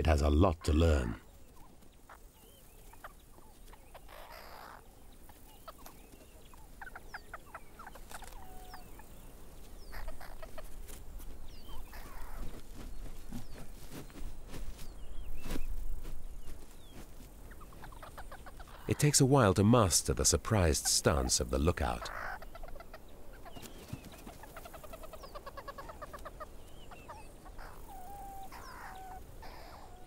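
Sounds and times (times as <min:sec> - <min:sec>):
meerkats chirping and clucking: 0:00.0 - 0:30.0.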